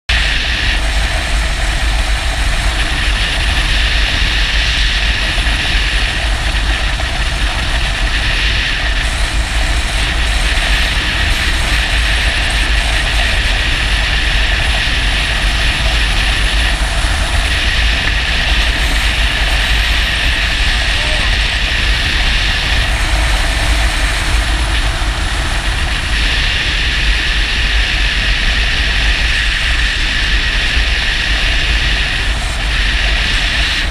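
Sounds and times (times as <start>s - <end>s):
motorcycle engine rumble: 0.1s - 33.9s
wind rushing over microphone: 0.1s - 33.9s.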